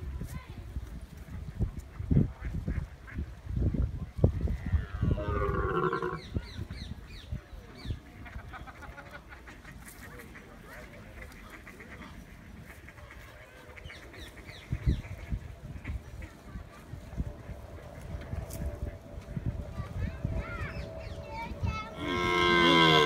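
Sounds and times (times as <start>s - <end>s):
wind on microphone: 0.0s - 8.6s, 12.5s - 23.0s.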